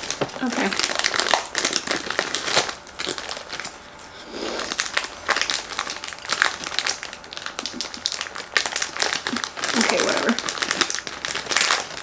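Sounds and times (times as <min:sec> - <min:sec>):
plastic wrapper crinkling: 0:00.0 - 0:03.8, 0:04.6 - 0:12.0.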